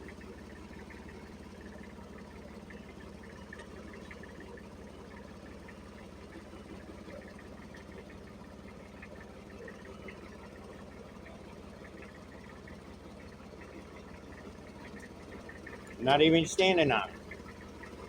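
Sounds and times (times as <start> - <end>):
mini skid steer engine running: 0.0 - 18.0.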